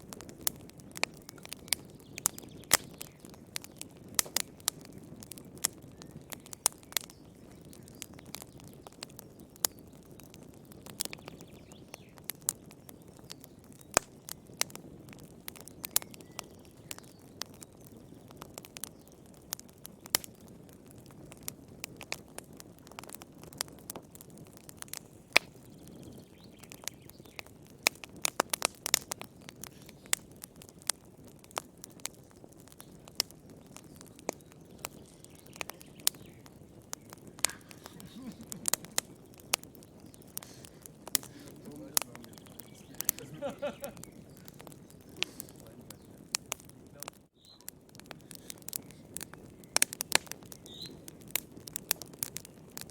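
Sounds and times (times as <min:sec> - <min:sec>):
firewood crackling and popping: 0:00.0 - 0:52.9
low rush of flames: 0:00.0 - 0:52.9.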